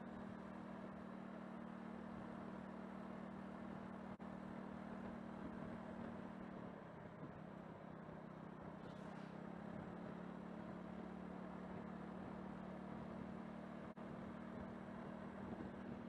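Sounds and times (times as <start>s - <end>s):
car engine and tyres hum: 0.0s - 16.0s.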